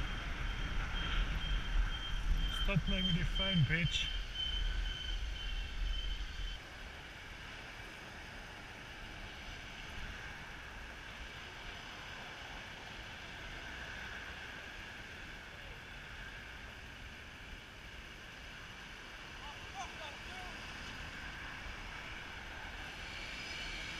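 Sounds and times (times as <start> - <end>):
city road traffic hum: 0.0 - 23.9.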